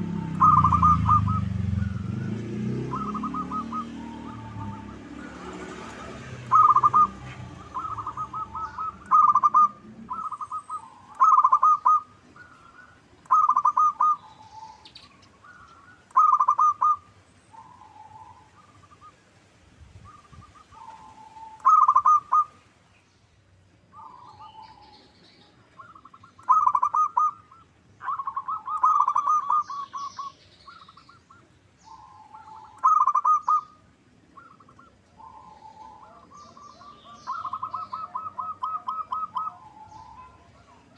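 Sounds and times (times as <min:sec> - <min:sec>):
dove cooing: 0:00.0 - 0:19.2, 0:20.1 - 0:22.6, 0:25.7 - 0:40.9.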